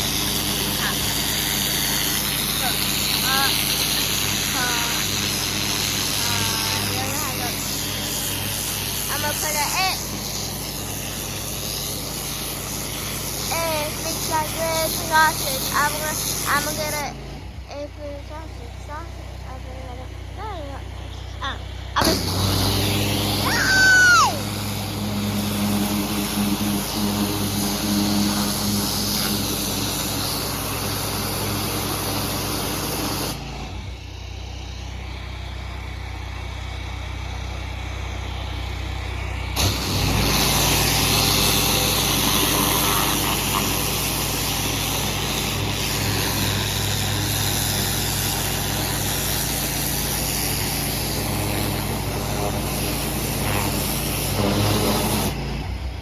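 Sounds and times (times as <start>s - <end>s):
water spray hissing: 0.0s - 33.5s, 39.1s - 56.0s
pressure washer engine running: 0.0s - 56.0s.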